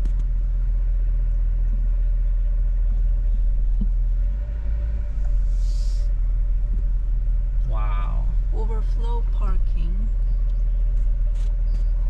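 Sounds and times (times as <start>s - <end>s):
truck rumble inside cab: 0.0s - 12.0s.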